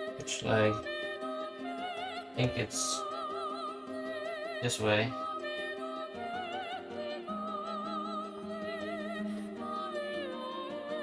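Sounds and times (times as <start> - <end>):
opera-like melody with vibrato: 0.0 - 11.0.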